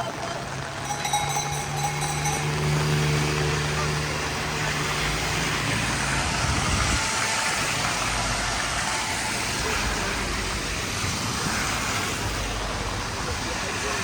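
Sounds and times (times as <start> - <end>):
vehicle engine rumbling: 0.0 - 14.0
wet road noise: 0.0 - 14.0
heavy rain hiss: 2.6 - 14.0.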